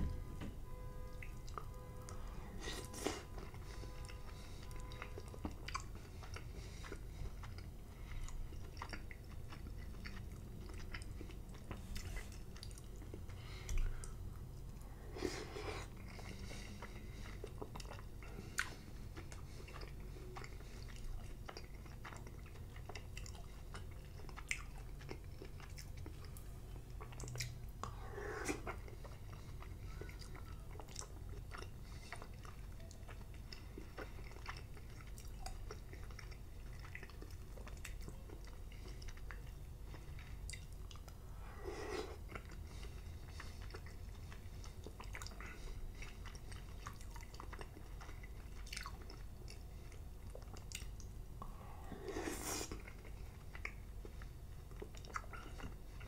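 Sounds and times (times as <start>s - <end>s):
person chewing spinach: 1.2s - 56.0s.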